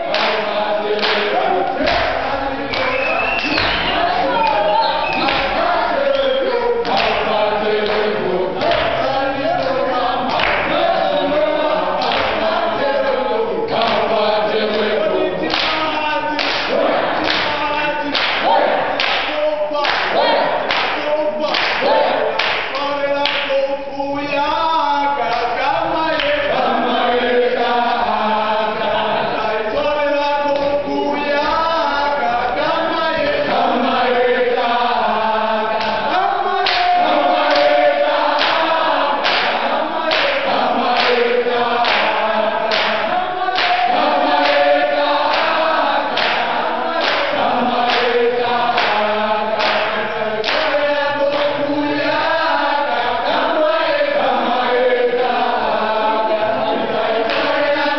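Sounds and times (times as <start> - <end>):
group singing in unison: 0.0 - 57.9
rhythmic hand claps: 0.0 - 57.9.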